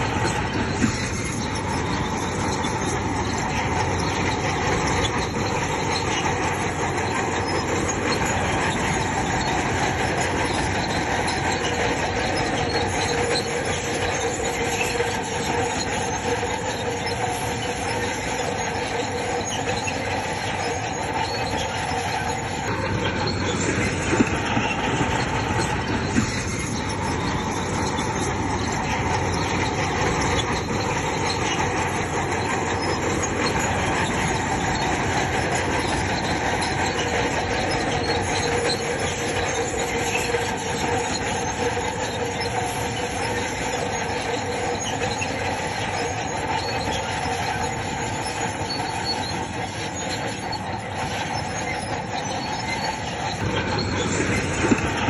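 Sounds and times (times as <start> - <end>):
bulldozer engine: 0.0 - 55.0
crawler tracks squealing: 0.0 - 55.0.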